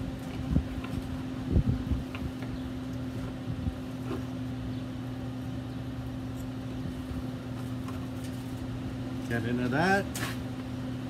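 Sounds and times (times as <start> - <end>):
low two-tone mechanical hum: 0.0 - 11.0.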